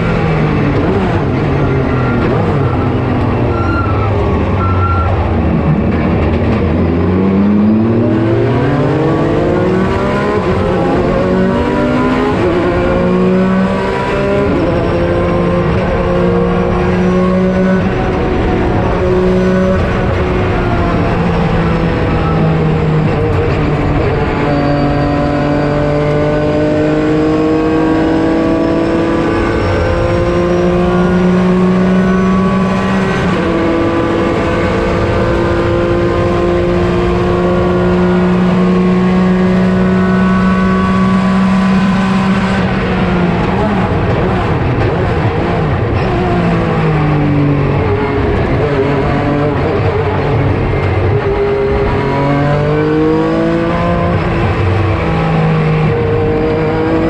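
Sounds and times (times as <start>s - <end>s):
racing car engine at full throttle: 0.0s - 57.0s.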